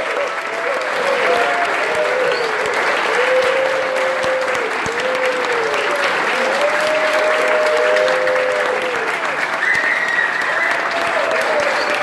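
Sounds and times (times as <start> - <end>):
audience applauding: 0.0 - 12.0
whooping cheers: 0.0 - 12.0.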